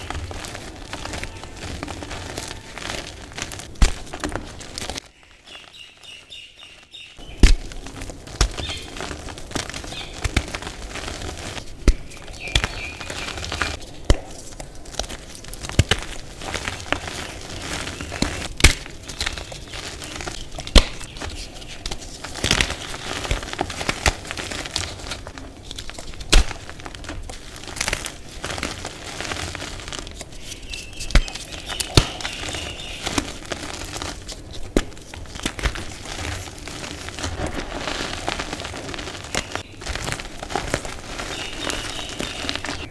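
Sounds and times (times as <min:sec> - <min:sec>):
chalk chunks snapping: 0:00.0 - 0:05.1, 0:07.2 - 0:42.9
chalk crunching: 0:00.0 - 0:42.9.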